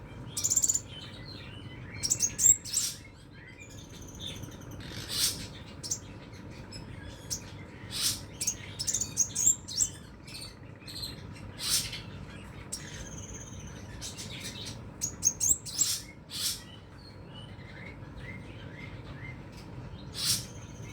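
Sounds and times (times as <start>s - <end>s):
bird chirping and trilling: 0.0s - 20.9s.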